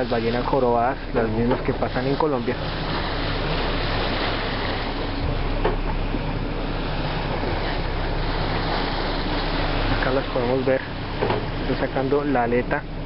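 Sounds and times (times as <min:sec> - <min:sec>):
low engine hum: 0:00.0 - 0:13.0
sea water rushing: 0:00.0 - 0:13.0
wind: 0:00.0 - 0:13.0.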